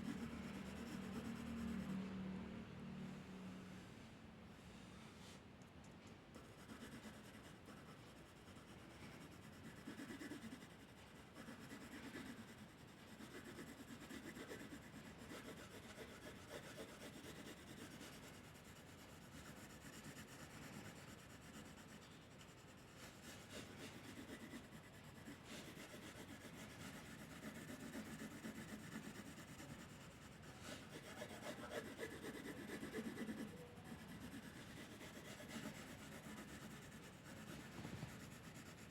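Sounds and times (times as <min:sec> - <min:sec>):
rubbing strokes on paper: 0:06.4 - 0:38.9.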